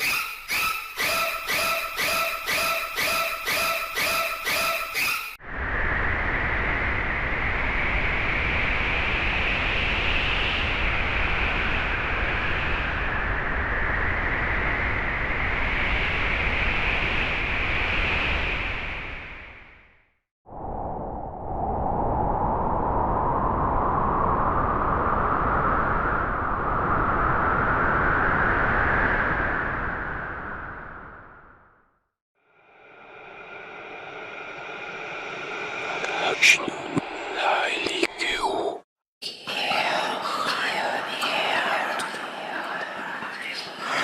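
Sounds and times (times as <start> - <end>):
howling wind: 5.3 - 19.9, 20.5 - 31.8, 32.4 - 44.0.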